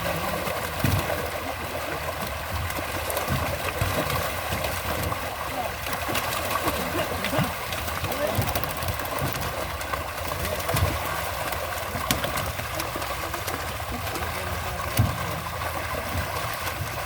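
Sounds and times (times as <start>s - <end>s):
water noise: 0.0s - 17.0s.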